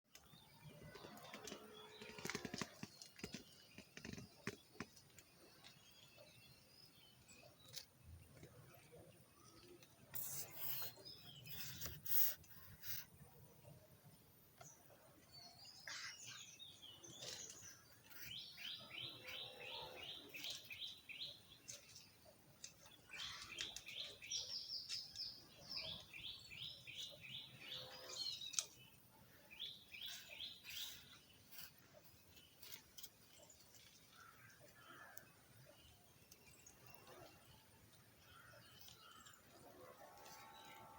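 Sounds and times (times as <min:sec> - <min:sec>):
bird singing: 0:00.1 - 0:40.9.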